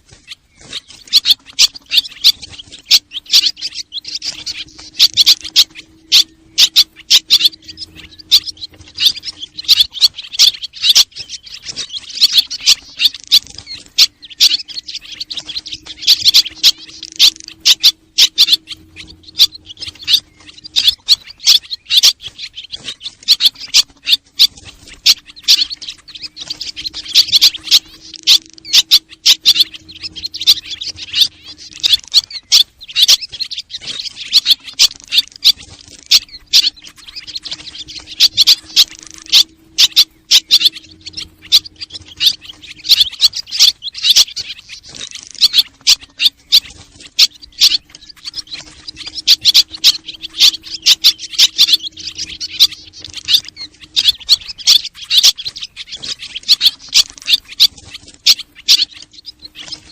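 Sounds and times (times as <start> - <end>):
faint steady hum: 0.0 - 59.9
swallows chirping: 0.0 - 59.9.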